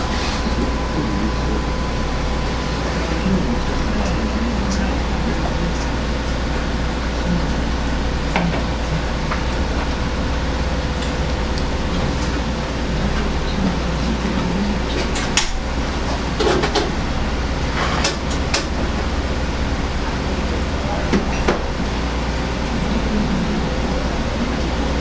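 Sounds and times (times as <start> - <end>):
low kitchen hum: 0.0 - 25.0.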